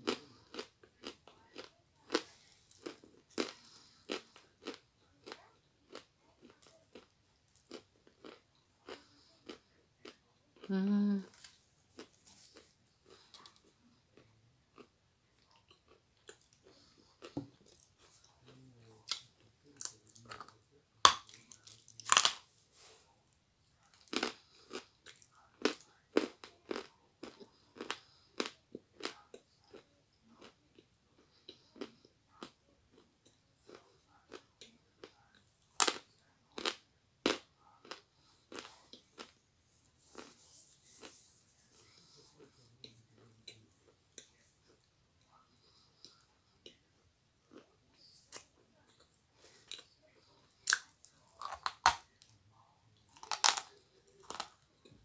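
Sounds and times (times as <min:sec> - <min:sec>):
chewing: 0:00.0 - 0:23.0, 0:23.8 - 0:55.0.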